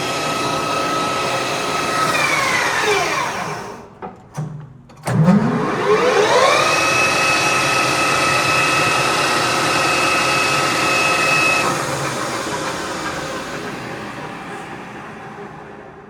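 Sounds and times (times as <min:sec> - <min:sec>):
lathe winding down: 0:00.0 - 0:03.9, 0:05.1 - 0:16.0
metal lathe gear whine: 0:00.0 - 0:03.9, 0:05.4 - 0:15.8.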